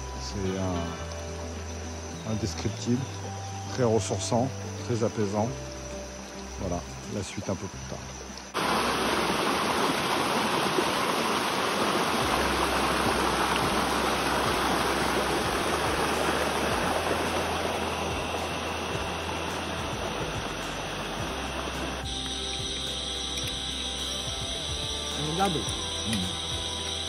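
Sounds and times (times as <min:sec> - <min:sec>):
stream splashing over stones: 0:00.3 - 0:27.0.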